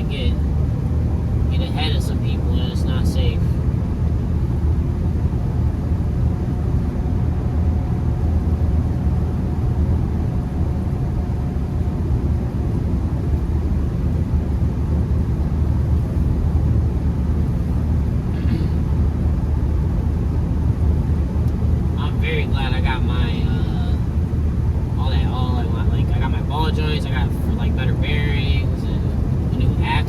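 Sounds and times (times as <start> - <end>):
car road and engine rumble: 0.0 - 30.0
tyres on snowy road: 0.0 - 30.0.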